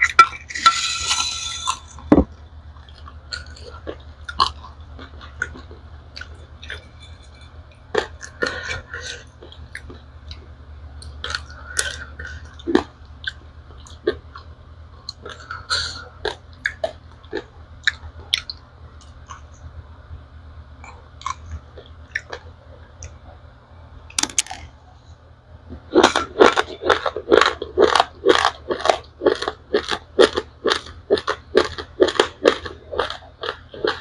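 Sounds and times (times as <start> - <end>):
chewing crunchy rice grains: 0.0 - 19.6, 20.8 - 23.3, 25.7 - 34.0.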